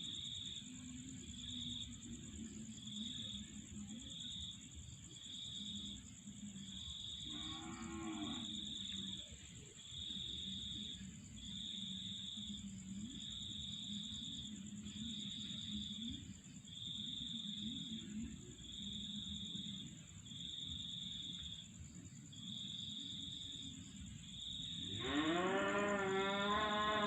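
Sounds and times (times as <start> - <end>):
pulsing insect chirp: 0.0 - 27.0.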